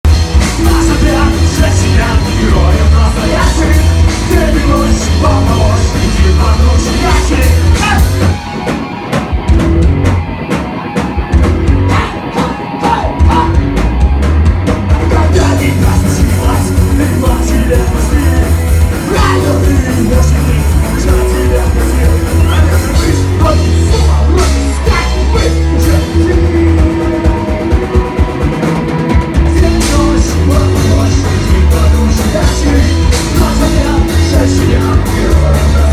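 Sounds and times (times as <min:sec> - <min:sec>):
punk rock song with singing: 0:00.0 - 0:35.9.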